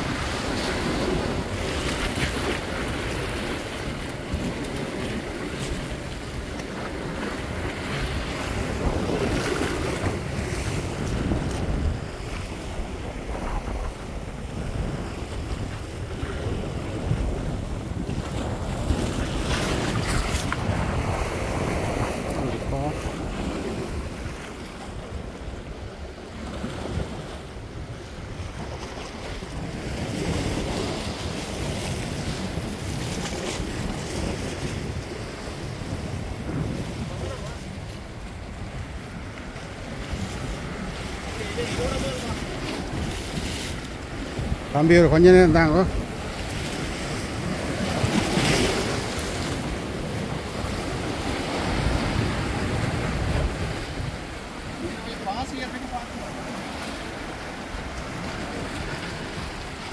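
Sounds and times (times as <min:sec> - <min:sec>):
sea waves washing against rocks: 0:00.0 - 0:59.9
wind buffeting microphone: 0:00.0 - 0:59.9.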